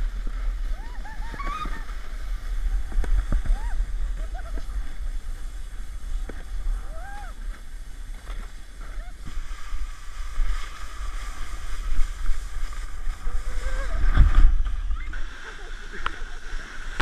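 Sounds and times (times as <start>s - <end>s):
sleds scraping over snow: 0.0s - 17.0s.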